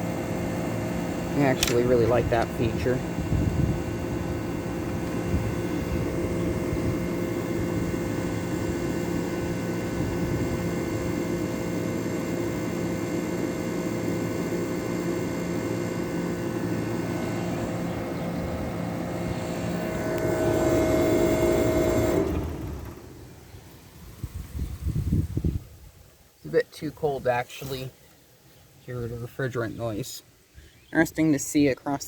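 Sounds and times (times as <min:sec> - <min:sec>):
air conditioner fan rushing: 0:00.0 - 0:30.0.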